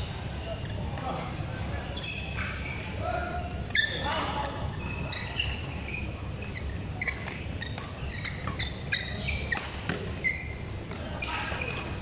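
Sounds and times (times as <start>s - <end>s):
shoes squeaking on court: 0.0s - 3.0s, 3.6s - 12.0s.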